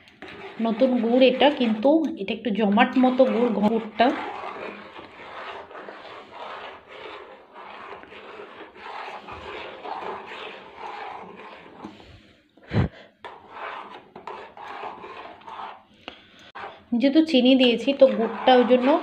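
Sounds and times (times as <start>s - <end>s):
spoon stirring thick pudding: 0.0s - 12.5s, 13.1s - 19.0s.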